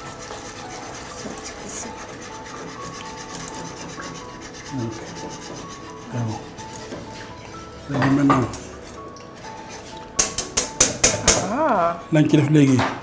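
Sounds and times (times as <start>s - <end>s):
whisk scraping in a saucepan: 0.0s - 8.8s, 9.4s - 11.3s.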